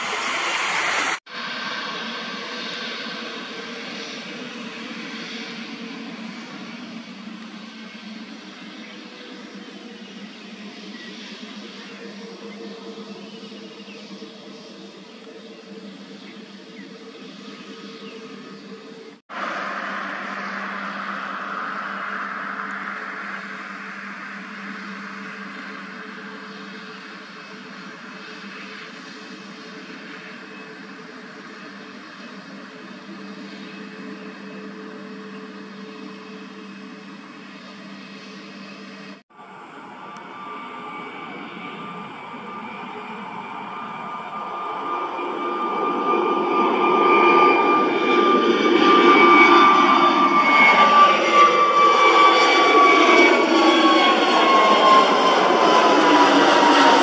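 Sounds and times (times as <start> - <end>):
high fan whine: 0.0 - 49.4
jet engines rushing hiss: 0.0 - 57.0.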